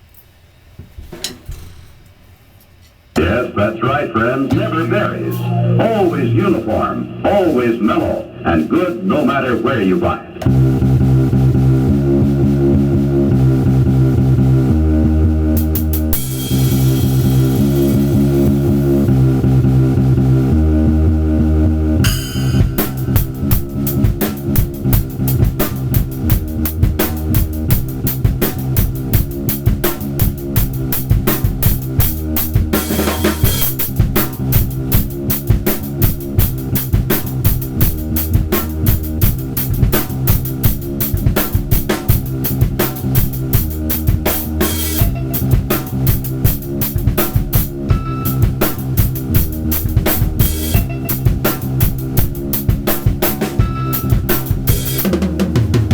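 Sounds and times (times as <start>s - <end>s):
drum kit groove: 0.7s - 14.8s, 15.5s - 19.7s, 22.0s - 55.9s
looped sample with bass line: 3.2s - 8.9s, 10.4s - 55.9s.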